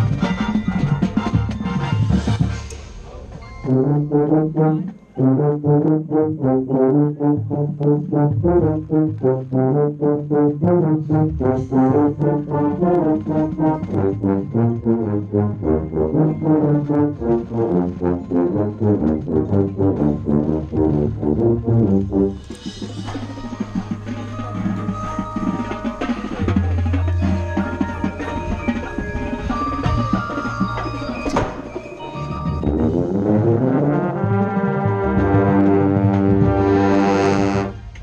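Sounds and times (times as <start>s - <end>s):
contrabass tuba low notes: 0.0s - 38.0s.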